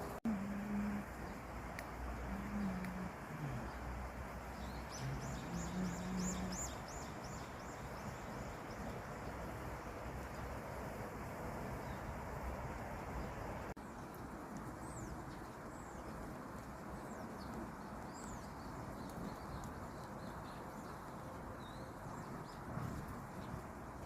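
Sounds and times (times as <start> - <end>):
small birds chirping: 0.0 - 10.6, 11.7 - 23.7.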